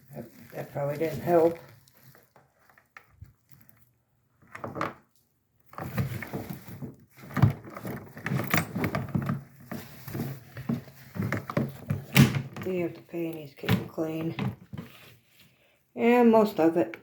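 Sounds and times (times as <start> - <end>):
wet laundry rustling: 0.0 - 4.5, 5.1 - 16.5.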